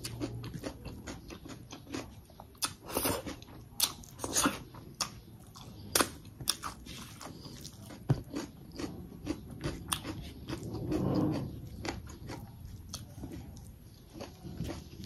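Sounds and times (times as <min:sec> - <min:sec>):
chewing and lip smacking: 0:00.0 - 0:15.0.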